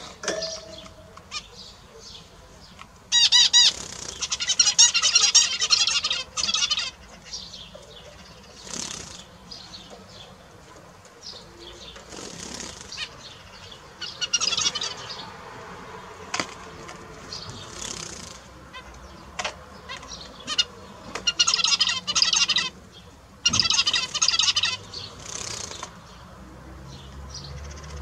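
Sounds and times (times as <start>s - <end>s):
finches calling: 0.0s - 10.6s, 11.2s - 15.3s, 17.2s - 26.2s.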